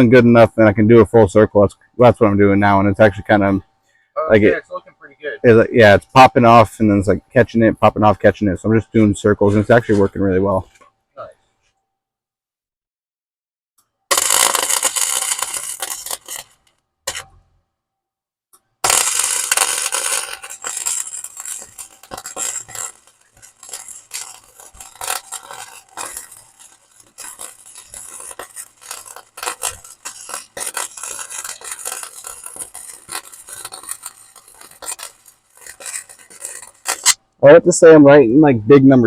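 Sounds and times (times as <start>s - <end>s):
welding arc crackling: 0.0s - 3.7s, 5.4s - 10.8s, 13.8s - 17.6s, 18.6s - 37.3s.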